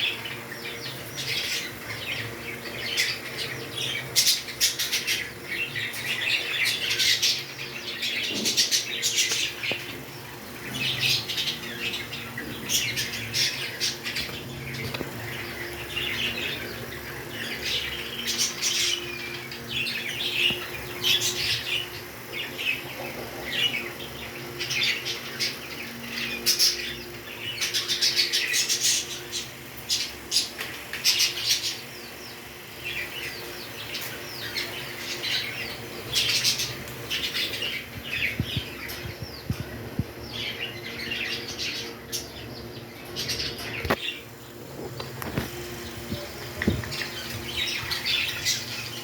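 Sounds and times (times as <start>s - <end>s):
faint steady hum: 0.0s - 49.0s
parrots chirping and squawking: 0.0s - 49.0s.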